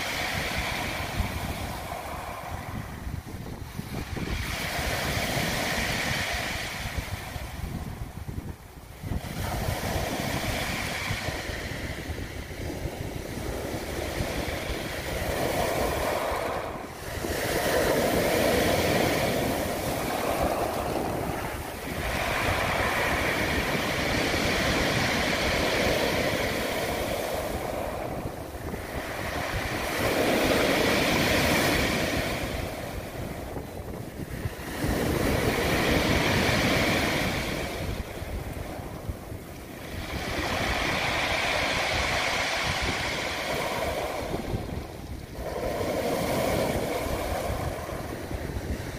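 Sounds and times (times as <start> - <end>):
waves breaking on pebble beach: 0.0 - 48.9.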